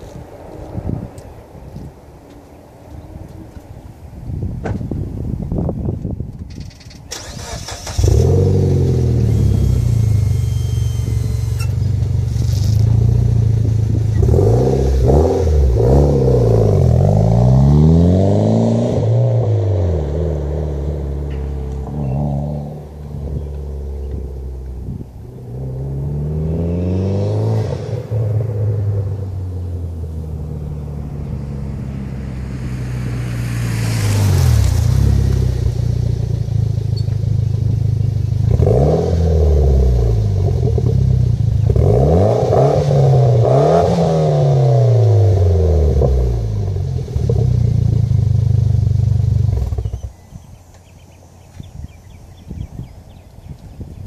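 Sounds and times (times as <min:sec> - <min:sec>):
car engine idling and revving: 0:06.4 - 0:53.3.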